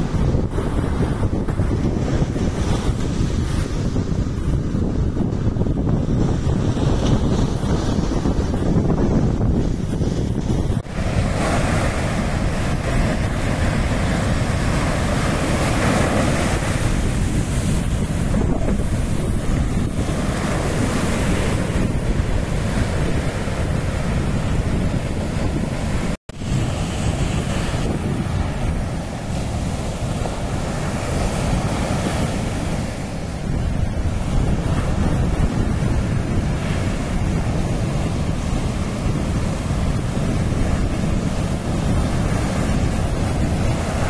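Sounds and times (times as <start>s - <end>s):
ocean surf breaking on beach: 0.0s - 44.0s
wind buffeting microphone: 0.0s - 44.0s.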